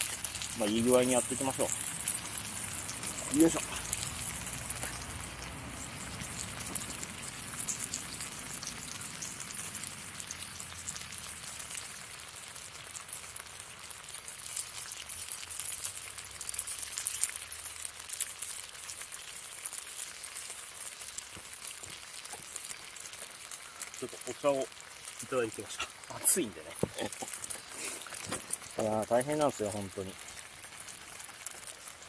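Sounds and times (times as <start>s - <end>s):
bacon sizzling in a frying pan: 0.0s - 32.0s.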